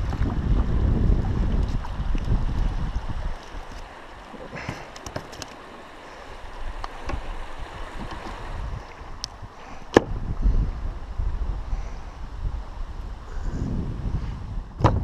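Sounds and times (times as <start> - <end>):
water lapping around kayak: 0.0 - 14.8
wind buffeting microphone: 0.0 - 15.0.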